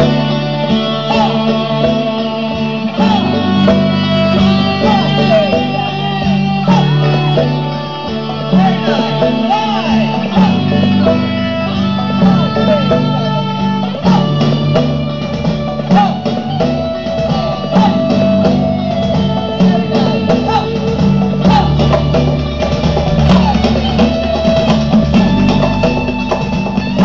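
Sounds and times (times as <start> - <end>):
guitar-led music: 0.0 - 27.0.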